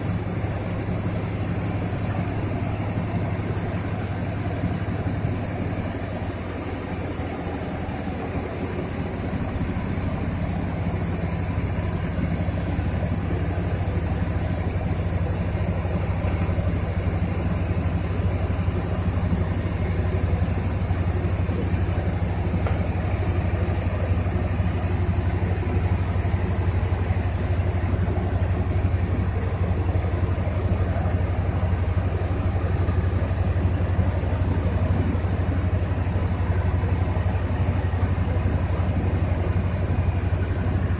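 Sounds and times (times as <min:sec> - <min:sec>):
diesel crane engines droning: 0:00.0 - 0:40.9.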